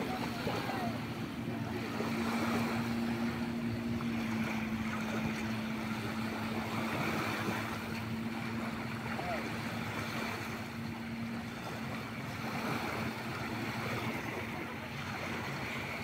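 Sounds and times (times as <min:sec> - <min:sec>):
motorboat engine drone: 0:00.0 - 0:16.0
small waves: 0:00.0 - 0:16.0
wind: 0:00.0 - 0:16.0.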